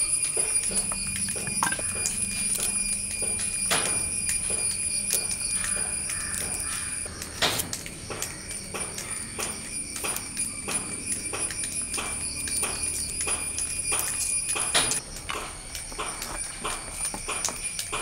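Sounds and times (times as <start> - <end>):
steady high-pitched whine: 0.0 - 18.0.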